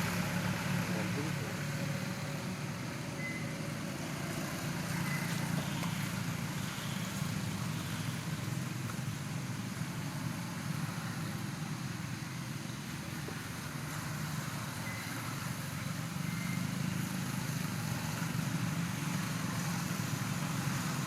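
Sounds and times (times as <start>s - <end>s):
low engine hum: 0.0s - 21.0s
outdoor background noise: 0.0s - 21.0s.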